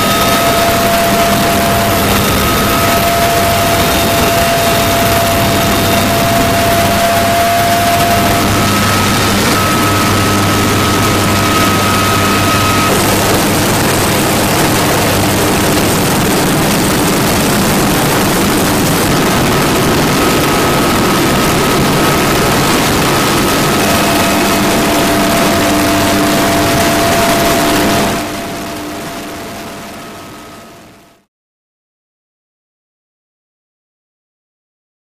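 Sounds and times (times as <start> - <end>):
helicopter rotor and engine noise: 0.0 - 31.3
turbine whine: 0.0 - 31.3.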